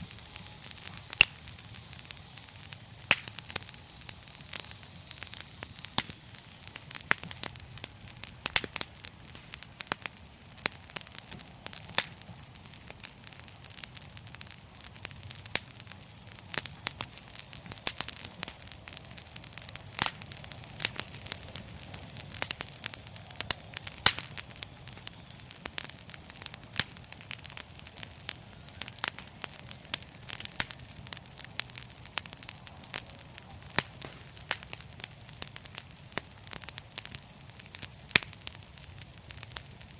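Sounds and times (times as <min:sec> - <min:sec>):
low hiss: 0:00.0 - 0:39.9
wood fire crackling and popping: 0:00.0 - 0:39.9.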